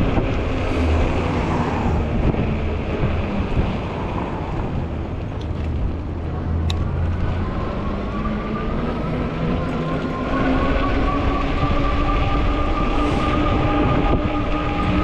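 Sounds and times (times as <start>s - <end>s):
road rumble: 0.0s - 15.0s
wind buffeting microphone: 0.0s - 15.0s.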